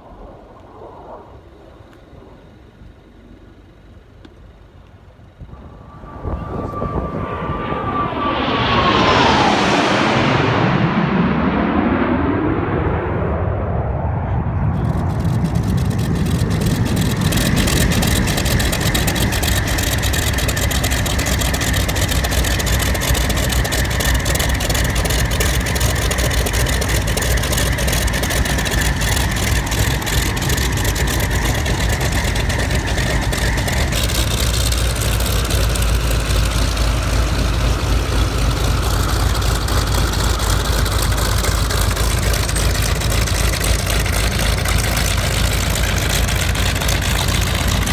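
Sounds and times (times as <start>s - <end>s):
piston aircraft engine running: 0.0s - 47.9s.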